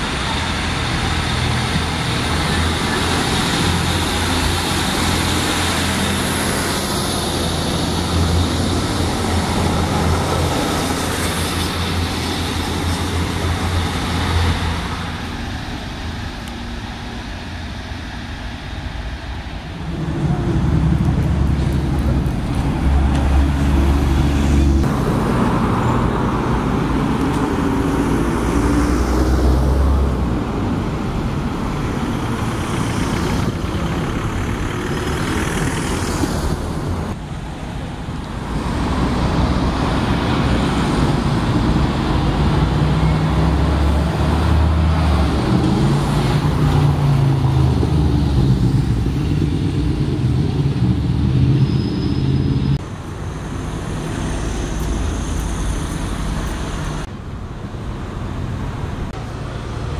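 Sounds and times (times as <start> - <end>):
bus engine hum: 0.0 - 59.9
tyre and traffic noise: 0.0 - 59.9.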